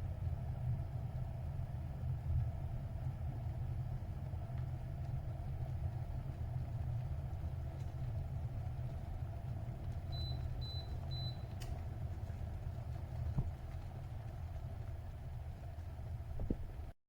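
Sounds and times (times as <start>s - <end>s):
kettle heating water rumble: 0.0s - 17.0s.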